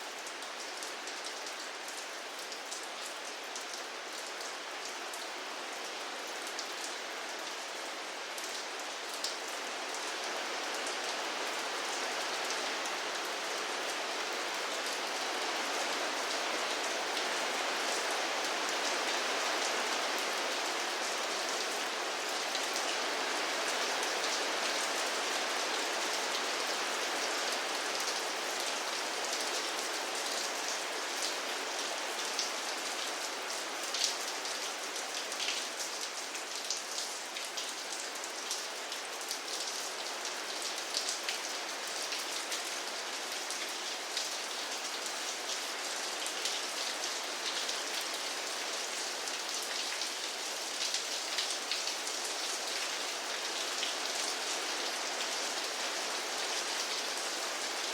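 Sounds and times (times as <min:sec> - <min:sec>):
rain falling on a surface: 0:00.0 - 0:57.9.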